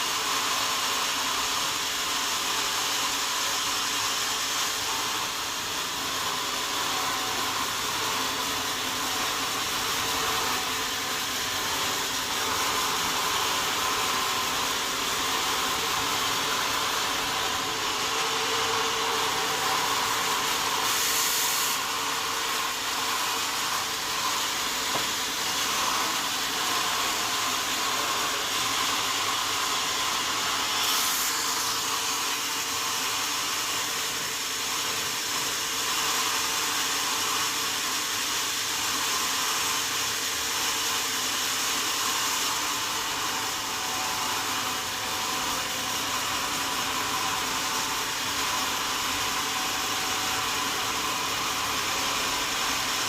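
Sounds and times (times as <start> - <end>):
sawmill saw cutting wood: 0.0 - 53.0.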